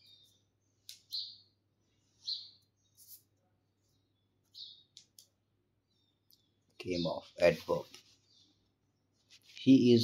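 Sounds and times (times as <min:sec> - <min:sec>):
faint bird chirping: 0:00.0 - 0:10.0.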